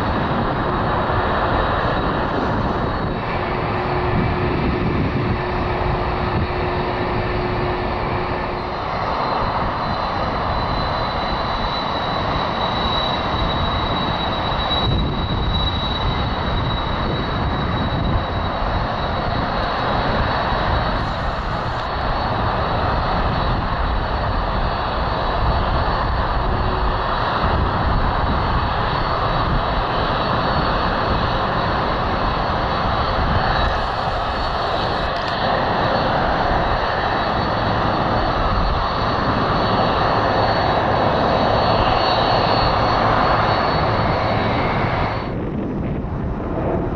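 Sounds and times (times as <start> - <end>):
faint high whine: 0.0 - 46.9
jet engines rumbling: 0.0 - 46.9.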